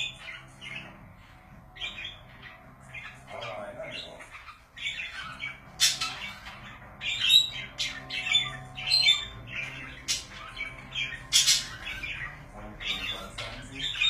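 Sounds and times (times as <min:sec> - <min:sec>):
budgerigars chattering and squawking: 0:00.0 - 0:14.0.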